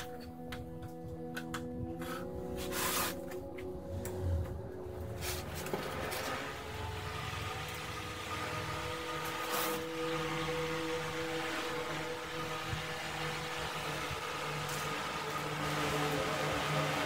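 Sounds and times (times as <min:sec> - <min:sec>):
motor-like hum: 0:00.0 - 0:17.0.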